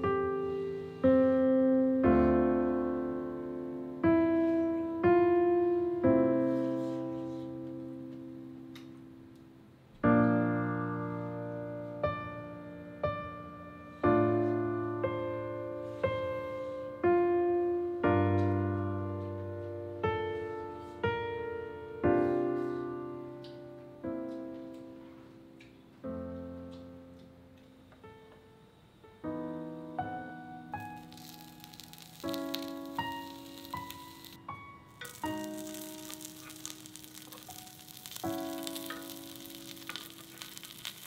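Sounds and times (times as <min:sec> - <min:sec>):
soft solo piano: 0:00.0 - 0:09.4, 0:10.0 - 0:41.0.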